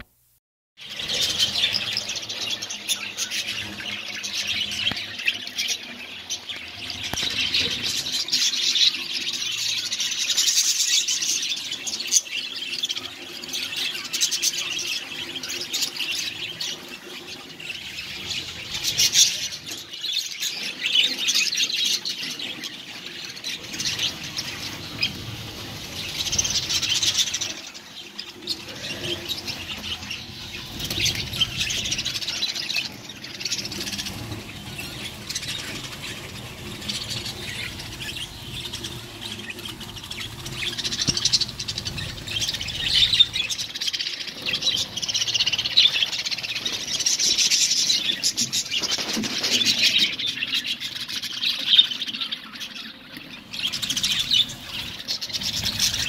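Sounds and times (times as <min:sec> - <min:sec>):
budgerigars chattering and chirping: 0:00.8 - 0:56.0.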